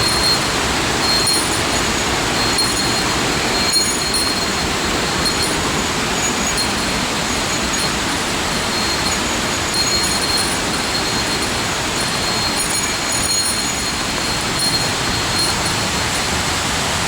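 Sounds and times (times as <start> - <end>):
rushing water roar: 0.0 - 17.0.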